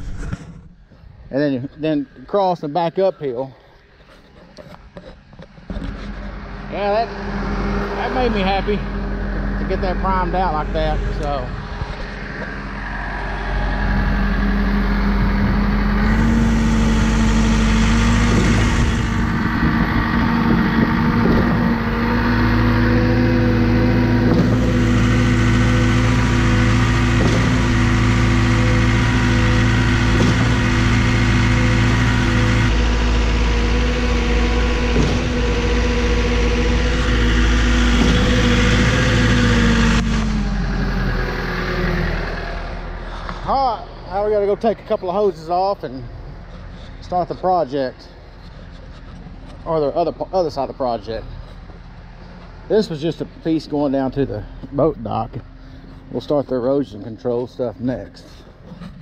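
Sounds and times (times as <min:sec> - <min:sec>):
concrete pump engine running: 0:00.0 - 0:59.0.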